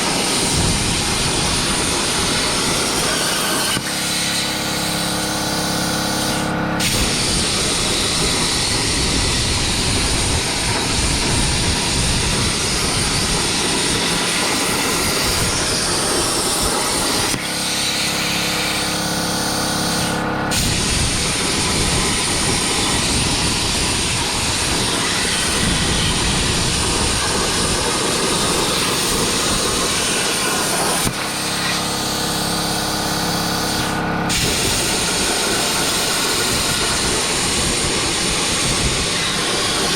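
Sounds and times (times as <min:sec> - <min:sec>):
plasma arc hissing: 0:00.0 - 0:39.9
steady multi-tone hum: 0:00.0 - 0:39.9.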